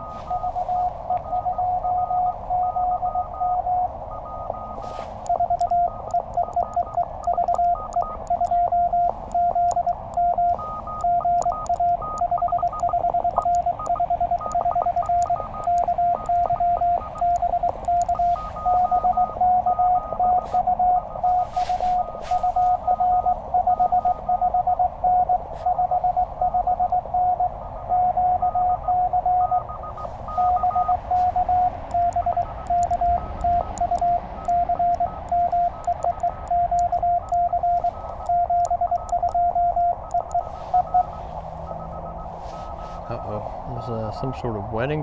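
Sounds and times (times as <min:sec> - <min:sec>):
morse code tone: 0:00.0 - 0:45.0.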